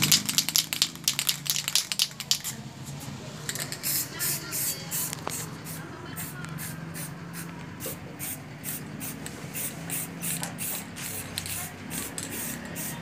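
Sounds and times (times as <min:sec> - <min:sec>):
spray paint can hissing: 0:00.0 - 0:02.6, 0:03.5 - 0:13.0.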